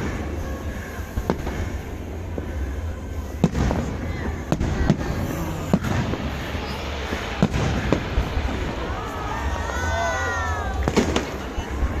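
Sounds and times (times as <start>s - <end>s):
distant fireworks rumble and crackling: 0.0s - 12.0s
fireworks bangs: 0.0s - 12.0s.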